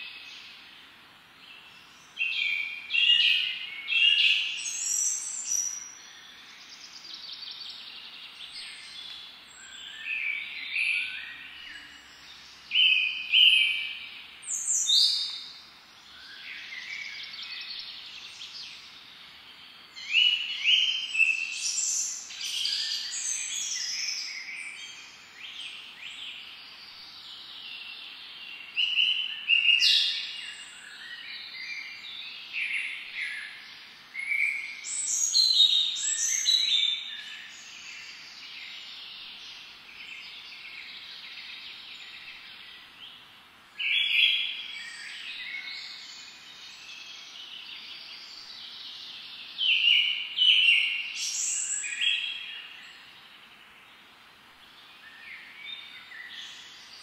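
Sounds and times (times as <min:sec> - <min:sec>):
soft background hiss: 0:00.0 - 0:57.0
songbirds singing: 0:00.0 - 0:57.0.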